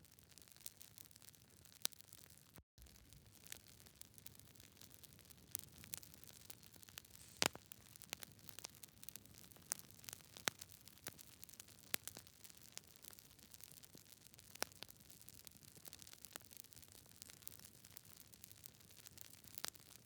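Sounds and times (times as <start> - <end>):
wood fire crackling: 0.3 - 20.0.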